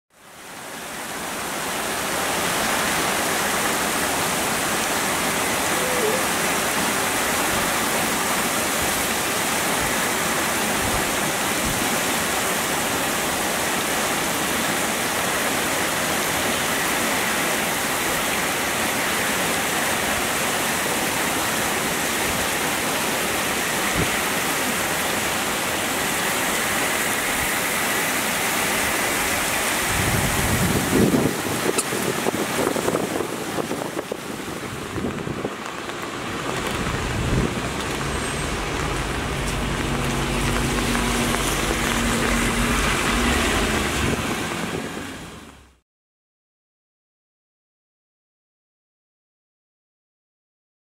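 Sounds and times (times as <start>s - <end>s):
torrential rain: 0.1s - 45.8s.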